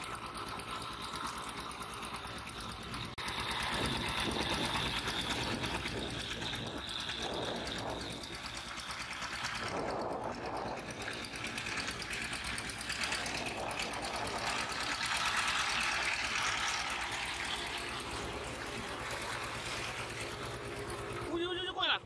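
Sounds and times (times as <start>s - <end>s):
walking tractor diesel engine: 0.0s - 22.0s.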